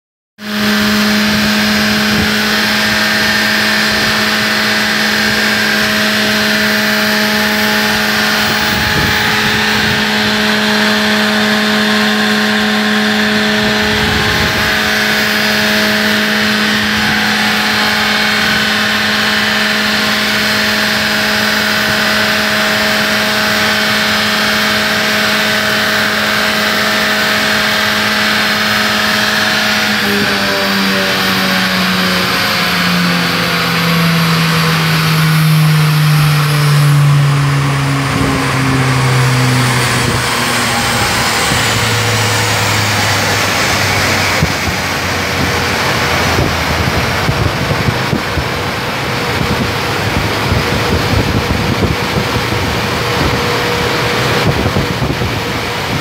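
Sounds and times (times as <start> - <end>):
car engine humming steadily: 0.4 - 56.0.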